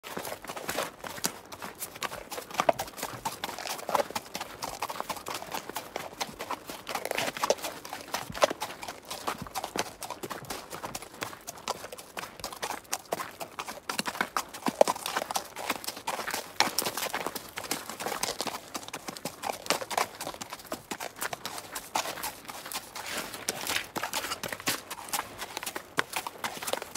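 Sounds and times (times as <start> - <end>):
horse hooves clip-clopping: 0.0 - 26.9.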